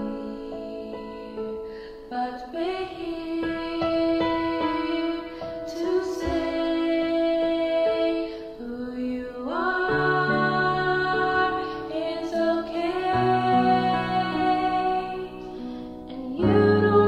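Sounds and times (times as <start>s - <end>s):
woman singing long held notes: 2.1s - 17.0s.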